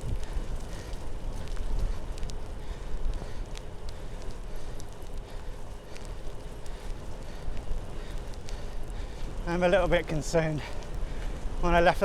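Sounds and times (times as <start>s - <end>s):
wind buffeting microphone: 0.0s - 12.0s
sharp ticks: 0.1s - 12.0s.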